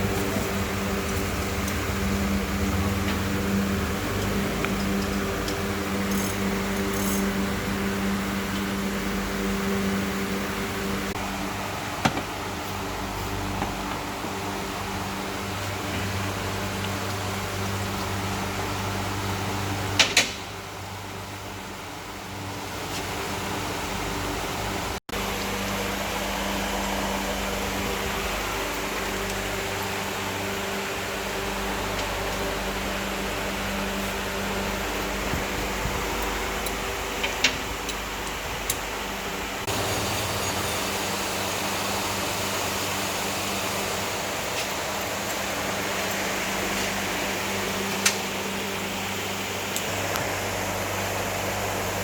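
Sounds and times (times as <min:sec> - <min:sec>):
fan-like mechanical hum: 0:00.0 - 0:52.0.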